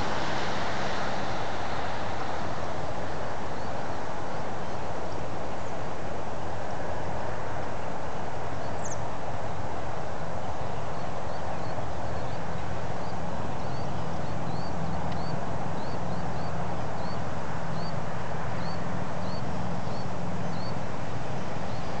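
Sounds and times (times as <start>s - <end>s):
low rumbling noise: 0.0s - 22.0s.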